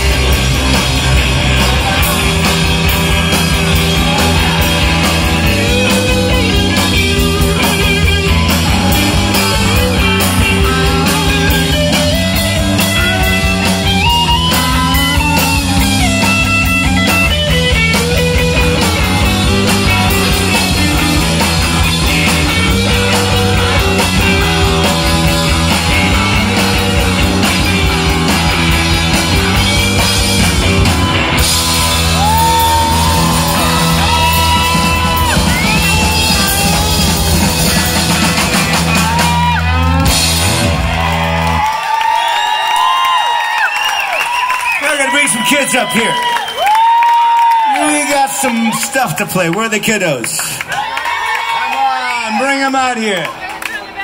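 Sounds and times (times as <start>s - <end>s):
bass guitar: 0.0s - 50.9s
electric guitars: 0.0s - 51.8s
drums: 0.0s - 54.0s.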